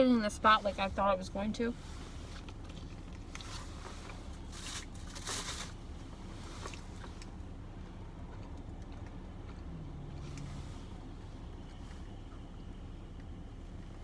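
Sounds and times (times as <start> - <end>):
steady low hum: 0.0 - 14.0
chewing a sandwich: 2.2 - 14.0.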